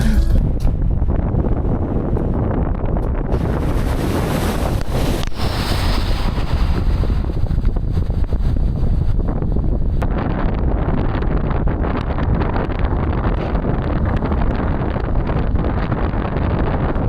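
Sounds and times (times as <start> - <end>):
engine and tyres rumbling: 0.0 - 17.0.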